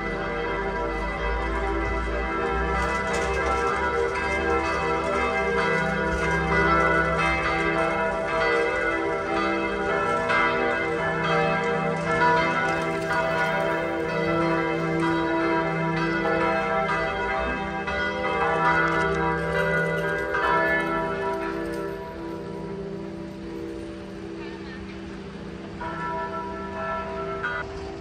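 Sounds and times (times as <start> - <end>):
church bells pealing: 0.0 - 28.0.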